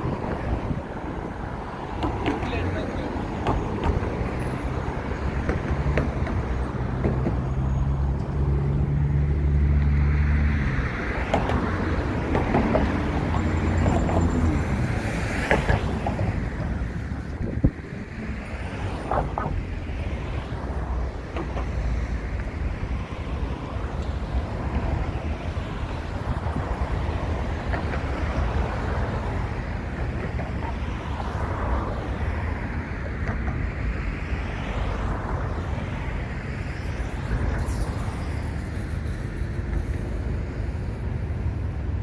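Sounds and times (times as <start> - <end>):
traffic rumble: 0.0 - 42.0.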